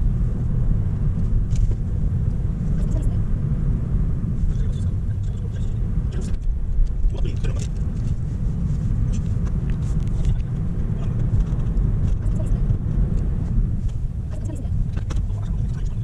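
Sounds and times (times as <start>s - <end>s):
car road and engine rumble: 0.0s - 16.0s
ticks and rattles in car: 0.0s - 16.0s.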